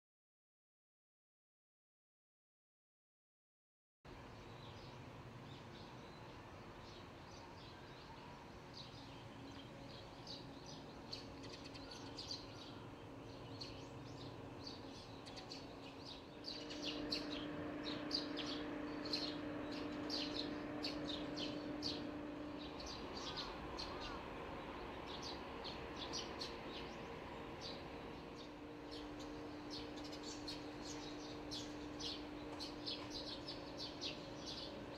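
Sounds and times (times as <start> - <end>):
faint steady hum: 4.1 - 34.9
small birds chirping: 4.2 - 34.9.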